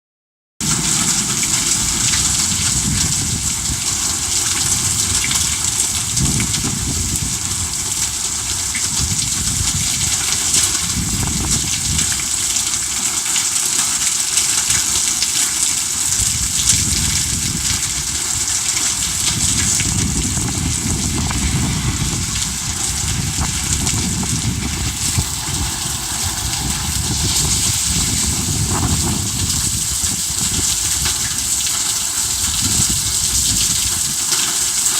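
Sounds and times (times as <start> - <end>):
heavy rain pouring: 0.6 - 34.9.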